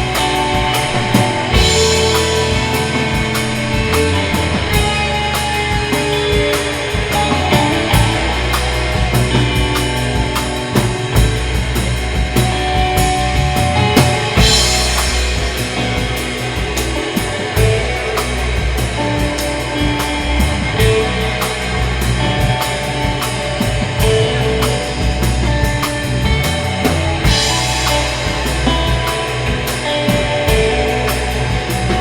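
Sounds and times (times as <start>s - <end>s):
cymbal crash: 0.0s - 32.0s
rock band playing: 0.0s - 32.0s.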